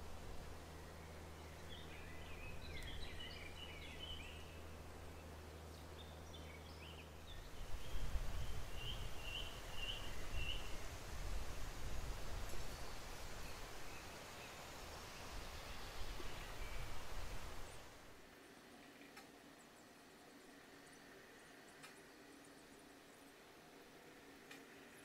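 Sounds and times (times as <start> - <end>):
songbirds chirping: 0.0 - 25.0
steady low hum: 0.0 - 25.0.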